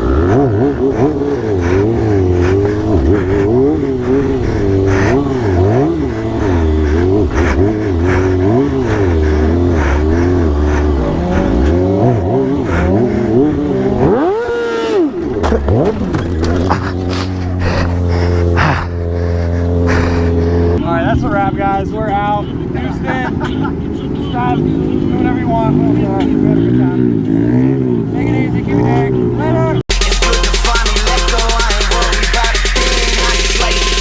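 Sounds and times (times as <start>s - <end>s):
motorcycle engines revving: 0.0s - 34.0s.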